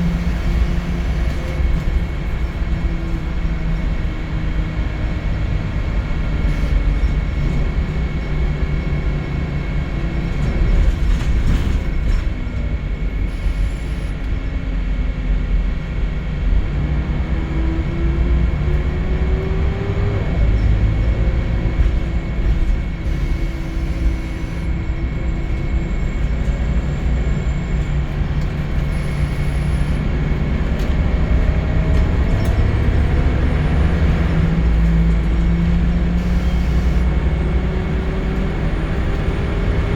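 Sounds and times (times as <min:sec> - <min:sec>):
bus engine and road rumble: 0:00.0 - 0:39.9
drivetrain whine: 0:00.0 - 0:39.9.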